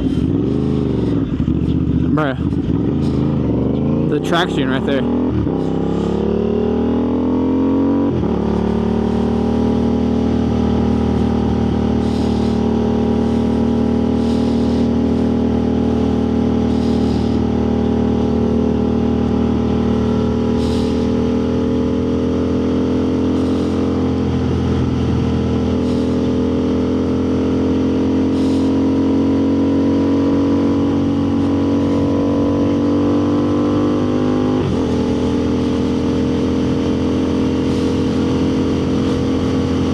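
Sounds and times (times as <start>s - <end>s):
motorcycle engine pulling hard: 0.0s - 39.9s.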